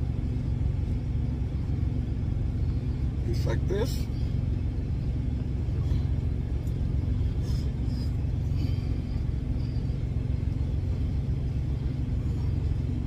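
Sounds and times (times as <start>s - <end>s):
faint steady hum: 0.0s - 13.0s
truck idling: 0.0s - 13.0s.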